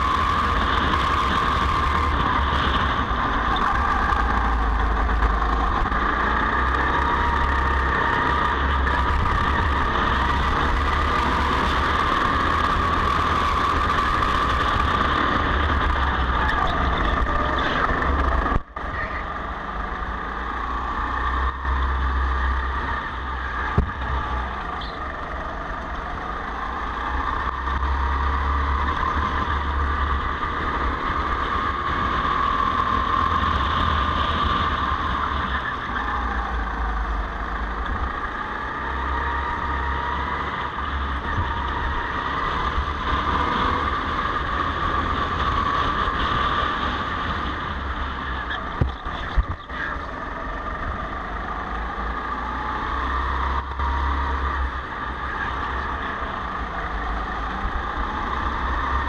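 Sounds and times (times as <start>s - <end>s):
go-kart engine whine: 0.0s - 59.0s
wind rumbling on microphone: 0.0s - 59.0s.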